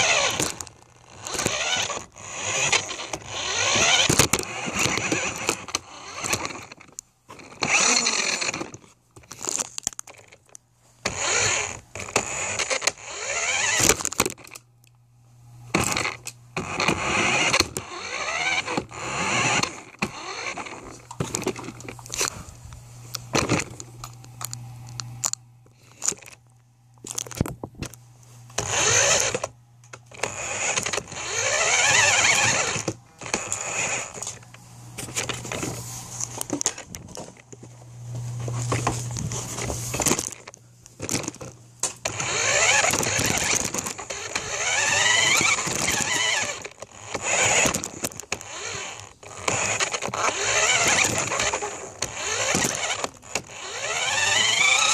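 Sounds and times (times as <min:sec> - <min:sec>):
toy truck motor whining: 0:00.0 - 0:14.6, 0:15.7 - 0:22.5, 0:23.1 - 0:26.4, 0:27.0 - 0:37.6, 0:38.3 - 0:54.9.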